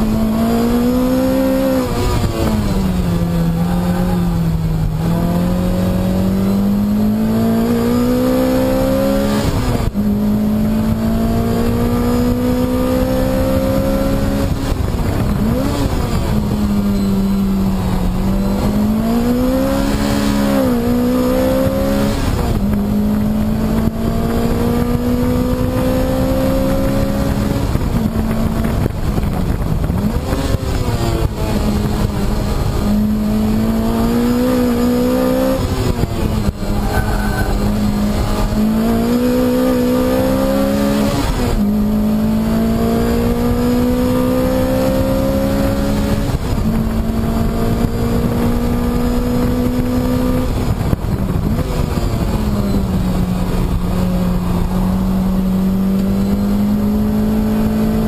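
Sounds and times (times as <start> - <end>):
race car engine through gears: 0.0 - 58.0.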